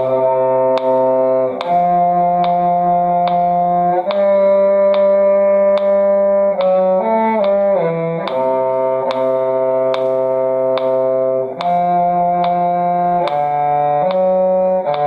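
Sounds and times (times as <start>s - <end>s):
cello: 0.0s - 15.0s
sharp metronome-like click: 0.0s - 15.0s
violin: 0.0s - 15.0s.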